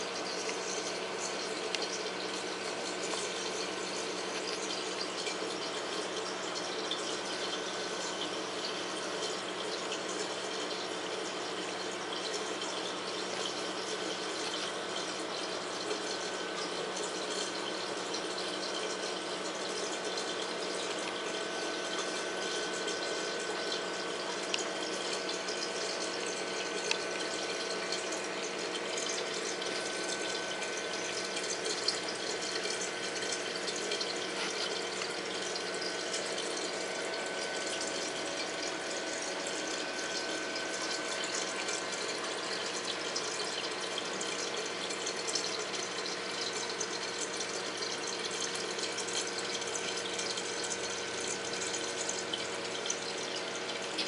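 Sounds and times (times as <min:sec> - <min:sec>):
pump hum: 0:00.0 - 0:54.0.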